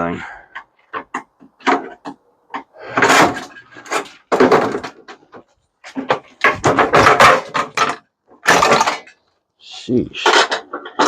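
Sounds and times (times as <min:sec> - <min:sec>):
metal casing banging and clattering: 0:00.6 - 0:09.3, 0:10.2 - 0:11.0.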